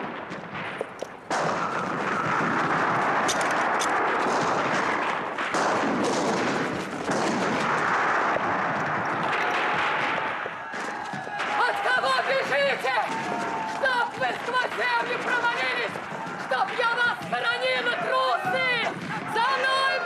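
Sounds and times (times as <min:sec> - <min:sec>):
battle din with gunfire: 0:00.0 - 0:20.0
sharp gunshots: 0:00.0 - 0:20.0.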